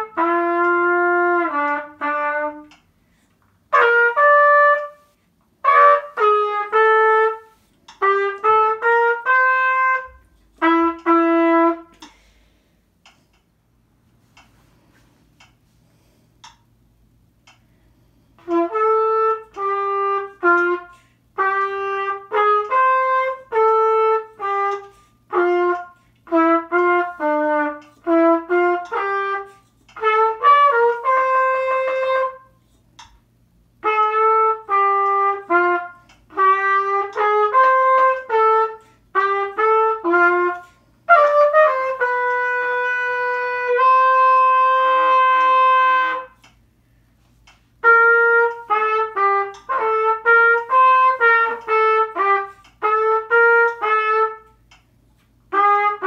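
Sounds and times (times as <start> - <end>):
solo brass instrument tune: 0.0 - 12.1, 18.3 - 32.8, 33.5 - 46.5, 47.7 - 56.0.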